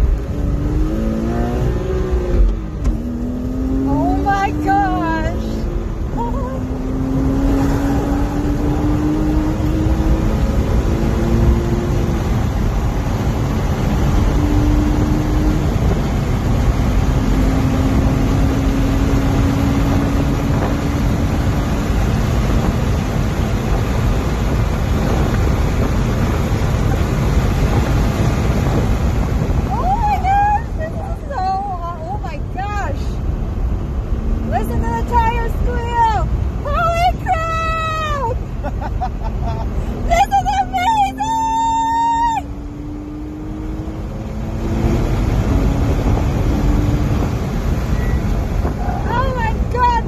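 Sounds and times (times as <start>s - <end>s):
race car engine revving: 0.0s - 36.6s, 39.1s - 50.0s
road and wind noise: 0.0s - 50.0s.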